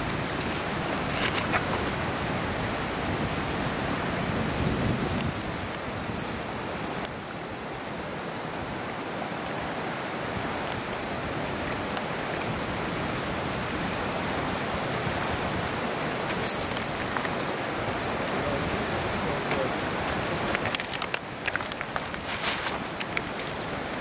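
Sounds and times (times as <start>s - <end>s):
river rushing over rapids: 0.0s - 24.0s.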